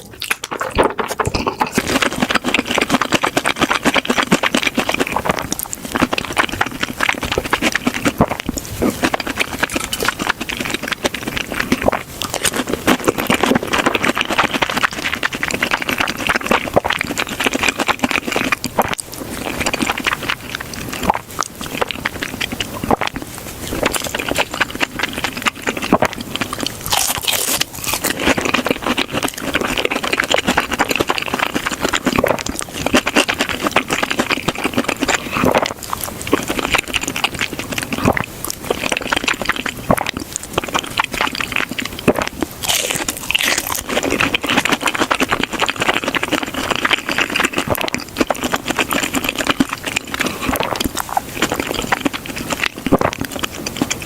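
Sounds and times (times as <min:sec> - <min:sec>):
crunching of fried food being chewed: 0:00.0 - 0:54.0.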